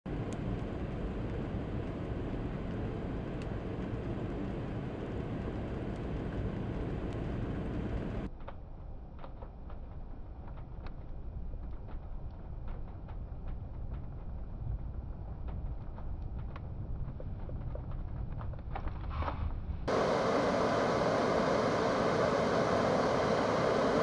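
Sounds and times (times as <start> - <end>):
blizzard wind: 0.1 - 24.0.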